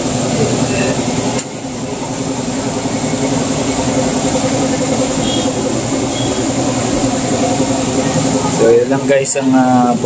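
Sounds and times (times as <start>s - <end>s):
washing machine spin cycle hum: 0.0s - 10.0s.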